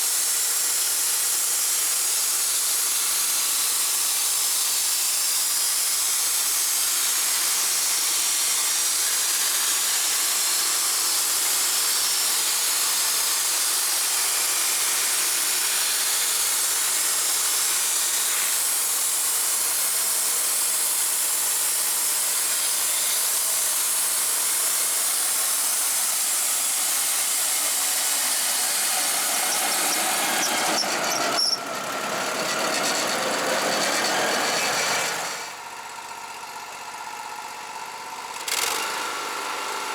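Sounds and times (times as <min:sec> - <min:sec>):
band saw blade whining through wood: 0:00.0 - 0:35.9
sawmill engine: 0:00.0 - 0:39.9.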